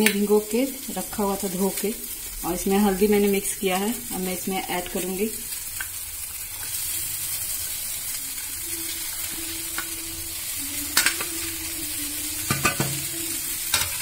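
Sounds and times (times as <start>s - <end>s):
sizzling in a frying pan: 0.0s - 14.0s.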